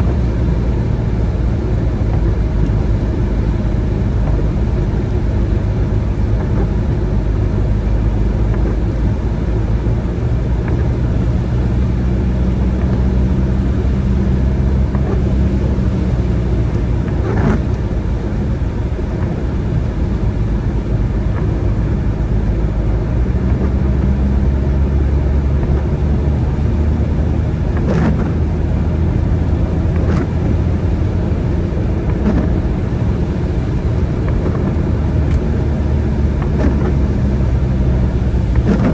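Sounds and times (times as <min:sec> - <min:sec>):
car engine and tyre hum: 0:00.0 - 0:38.9.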